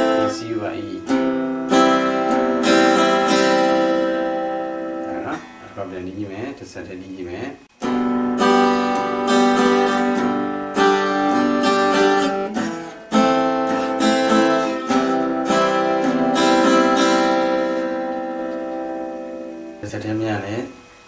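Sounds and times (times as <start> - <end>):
acoustic guitar strumming chords: 0.0 - 6.2, 7.6 - 21.0.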